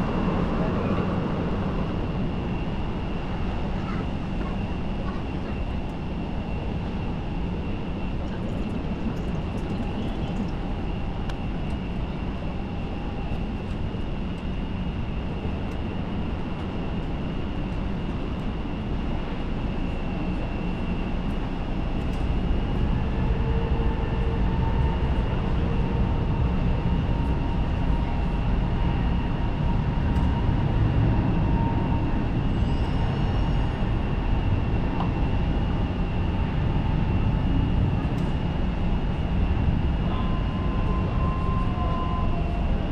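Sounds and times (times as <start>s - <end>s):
jet engines running: 0.0s - 42.9s.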